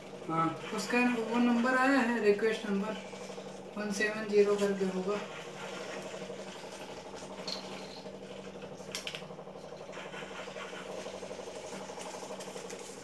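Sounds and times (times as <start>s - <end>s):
pump humming: 0.0s - 13.0s.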